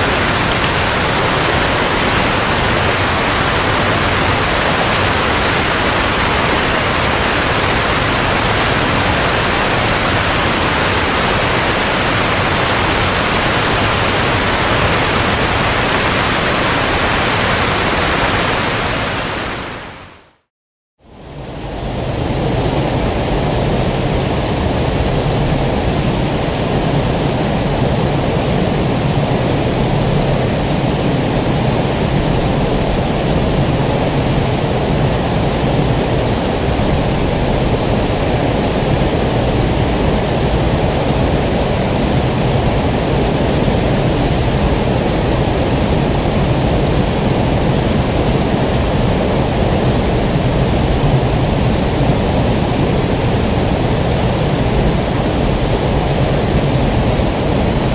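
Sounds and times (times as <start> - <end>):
running water rushing: 0.0 - 20.4, 21.2 - 57.9.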